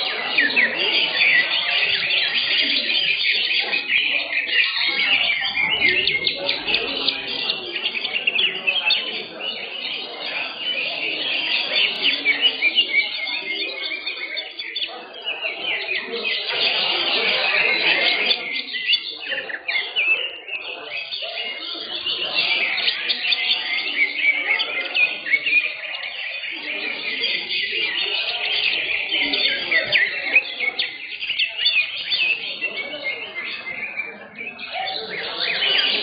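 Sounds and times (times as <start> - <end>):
birds chirping and whistling: 0.0 - 36.0.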